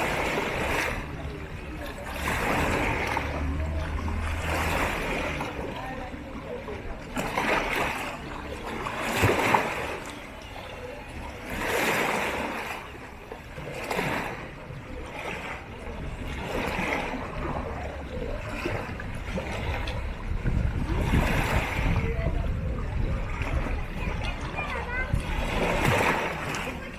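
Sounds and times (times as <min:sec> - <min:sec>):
waves lapping against rocks: 0:00.0 - 0:26.9.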